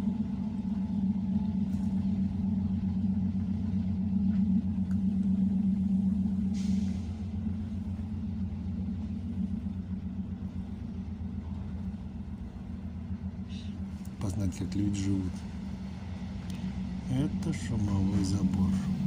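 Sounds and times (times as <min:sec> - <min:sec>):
moving train rumble: 0:00.0 - 0:19.0.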